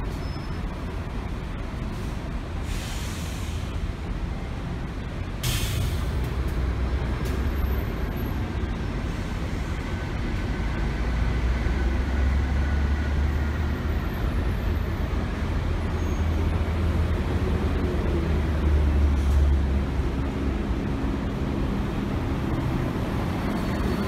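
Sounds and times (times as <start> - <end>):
diesel bus engine rumbling: 0.0 - 24.0
traffic noise: 0.0 - 24.0.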